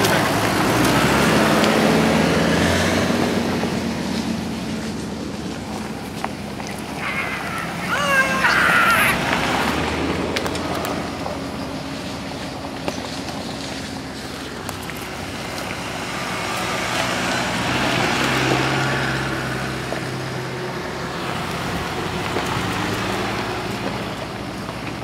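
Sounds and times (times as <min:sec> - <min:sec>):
tyres on dirt: 0:00.0 - 0:25.0
vehicle engines low hum: 0:00.0 - 0:25.0.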